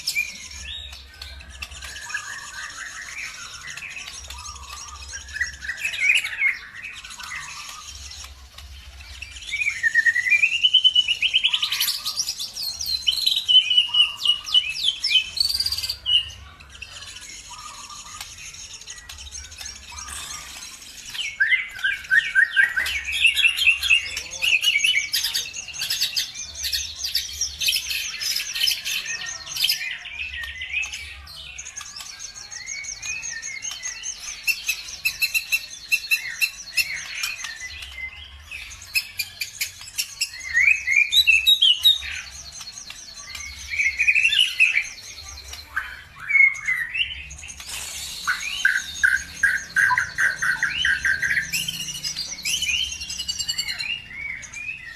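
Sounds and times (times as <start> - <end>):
songbird trilling song: 0.0 - 54.9.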